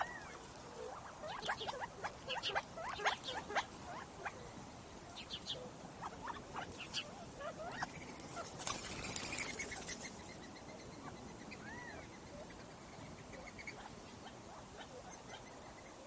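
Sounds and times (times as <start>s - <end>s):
faint steady hiss: 0.0s - 16.0s
wild birds chirping: 0.0s - 16.0s.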